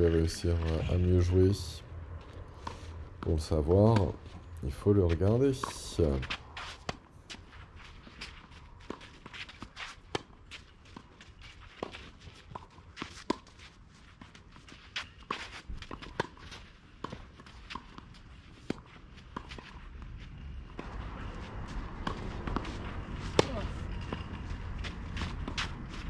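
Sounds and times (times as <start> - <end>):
footsteps on clay court: 0.0 - 1.5, 2.2 - 26.0.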